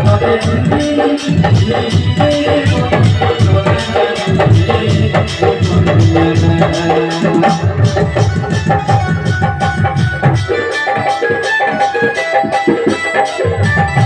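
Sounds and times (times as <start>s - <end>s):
hand drums beating: 0.0s - 14.0s
keyboard melody: 0.0s - 14.0s.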